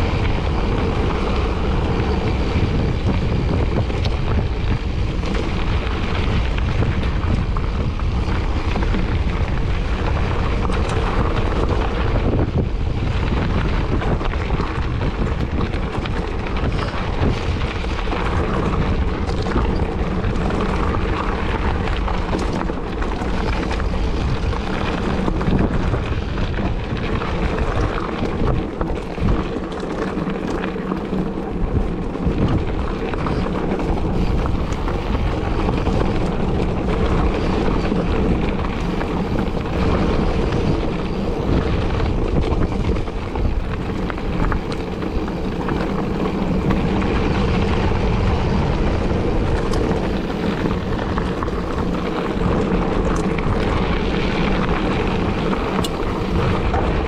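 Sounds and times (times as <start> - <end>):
bike rumbling over dirt trail: 0.0 - 57.0
wind buffeting microphone: 0.0 - 57.0.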